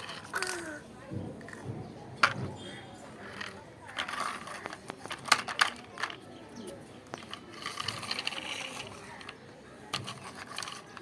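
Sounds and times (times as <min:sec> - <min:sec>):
plastic toys clicking and scraping: 0:00.0 - 0:11.0.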